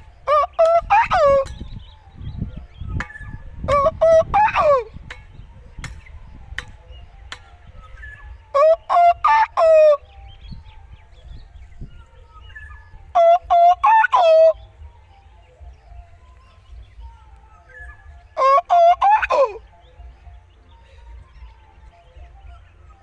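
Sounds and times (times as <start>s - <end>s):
bird calling: 0.0s - 23.0s.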